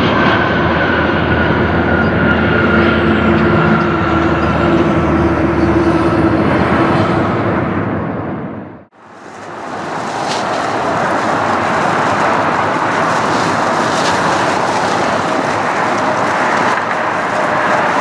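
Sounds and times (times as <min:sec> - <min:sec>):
jet engines roaring: 0:00.0 - 0:08.2, 0:09.0 - 0:18.0.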